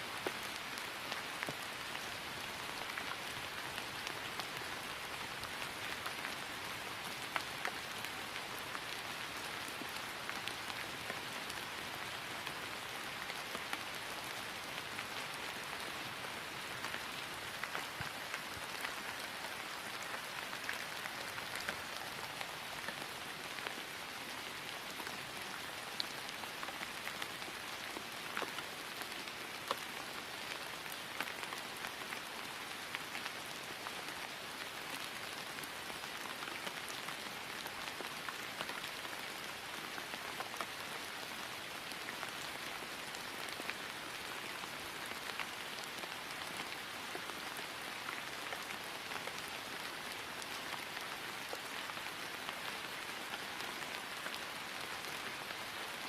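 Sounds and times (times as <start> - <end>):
rain falling on grass: 0.0 - 56.0.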